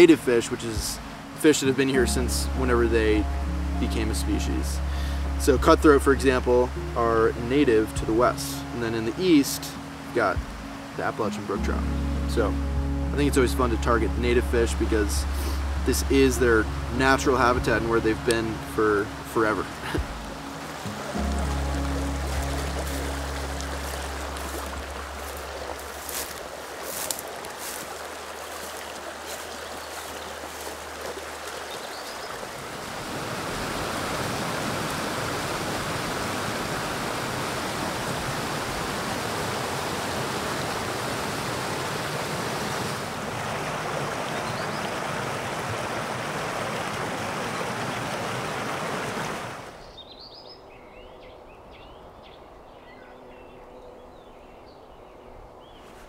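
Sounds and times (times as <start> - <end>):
stream splashing over rocks: 0.0 - 12.0, 13.2 - 49.9.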